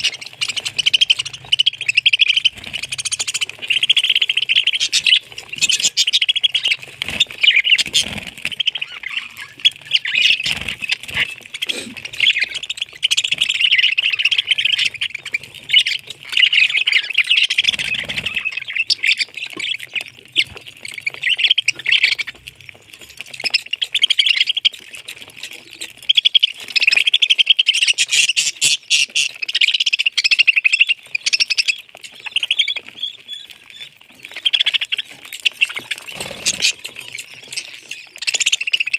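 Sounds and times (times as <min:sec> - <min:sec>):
parrot chirping and chattering: 0:00.0 - 0:38.9.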